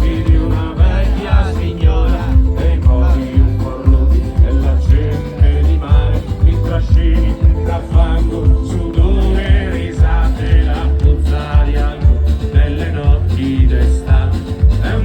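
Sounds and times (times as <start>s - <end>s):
band playing folk-rock song: 0.0s - 15.0s.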